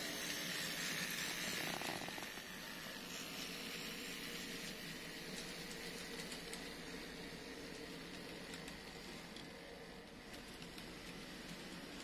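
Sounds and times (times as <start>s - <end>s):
model train motor hum: 0.0s - 12.0s.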